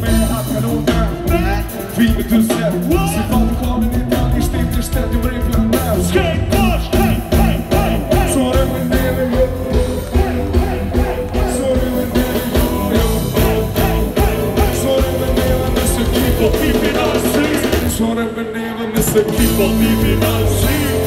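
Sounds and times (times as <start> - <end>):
drums: 0.0 - 21.0
electric guitar: 0.0 - 21.0
keyboards: 0.0 - 21.0.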